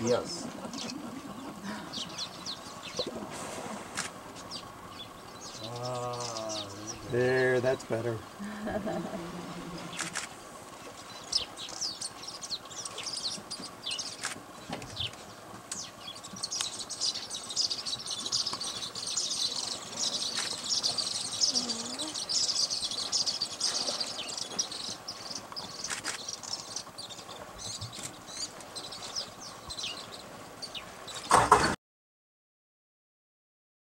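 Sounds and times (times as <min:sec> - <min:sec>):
birds chirping in chorus: 0:00.0 - 0:31.8.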